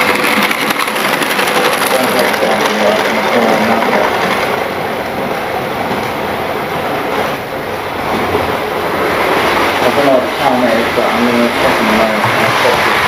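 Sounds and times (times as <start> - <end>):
model train whirring on rails: 0.0 - 13.0.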